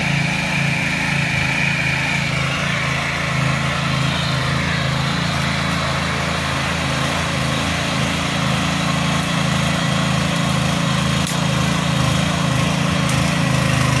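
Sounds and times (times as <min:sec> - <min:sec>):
petrol engine running under load: 0:00.0 - 0:14.0
tines churning soil: 0:00.0 - 0:14.0.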